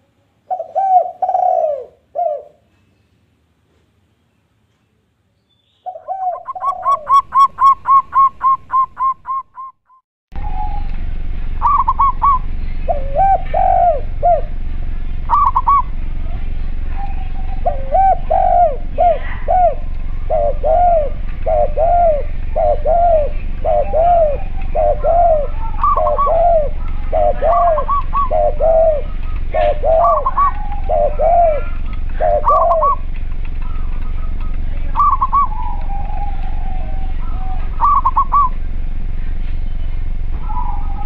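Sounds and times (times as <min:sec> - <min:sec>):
dove cooing low: 0:00.4 - 0:02.7, 0:05.9 - 0:09.7, 0:10.4 - 0:14.6, 0:15.2 - 0:33.1, 0:33.7 - 0:38.6, 0:40.2 - 0:41.0
dove higher notes: 0:05.8 - 0:09.7, 0:10.4 - 0:41.0
steady low hum: 0:05.8 - 0:09.7, 0:10.4 - 0:41.0.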